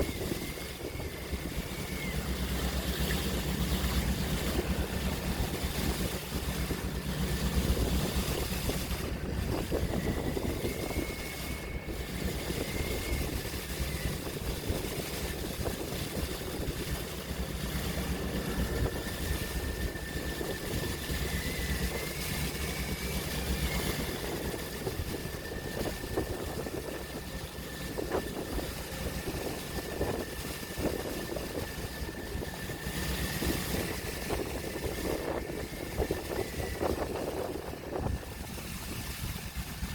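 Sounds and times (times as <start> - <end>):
boat engine drone: 0.0 - 39.9
water rushing and washing: 0.0 - 39.9.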